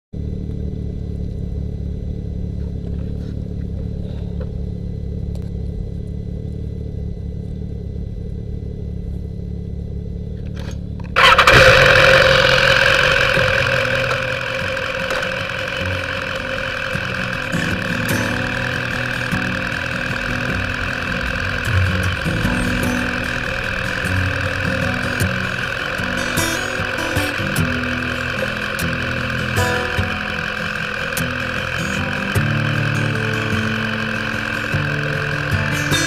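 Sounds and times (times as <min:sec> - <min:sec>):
low steady rumble: 0:00.2 - 0:36.0
motorcycle engine starting and idling: 0:00.2 - 0:36.0.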